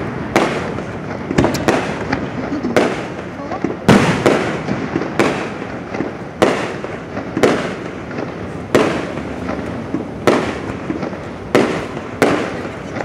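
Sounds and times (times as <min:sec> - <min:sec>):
firework shells booming: 0:00.0 - 0:13.0.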